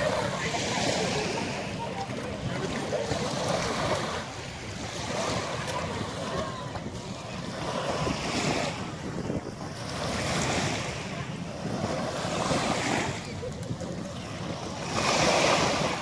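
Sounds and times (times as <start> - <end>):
waves lapping on sandy shore: 0.0 - 16.0
wind rumble on microphone: 0.0 - 16.0.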